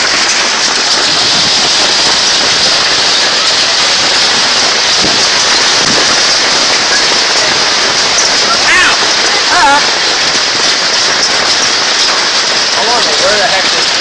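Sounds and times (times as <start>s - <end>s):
hail clattering on canopy: 0.0s - 14.0s.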